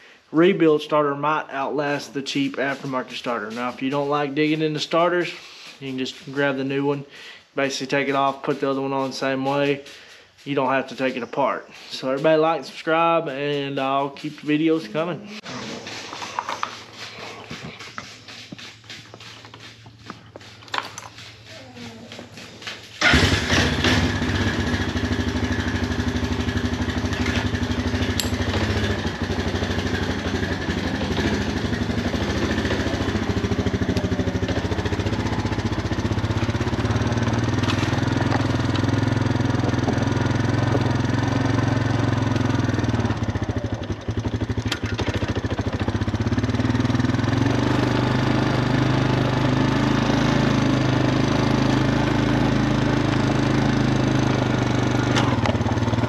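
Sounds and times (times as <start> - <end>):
atv engine starting and running: 0.0 - 56.0.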